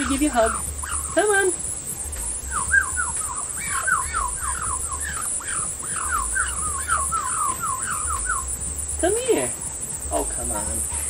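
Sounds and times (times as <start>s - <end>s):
duck chirping: 0.0s - 11.0s.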